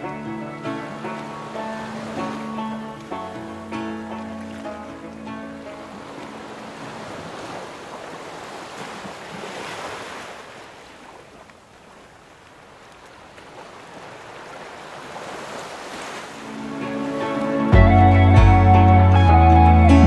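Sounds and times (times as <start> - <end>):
sea waves washing in: 0.0 - 18.4.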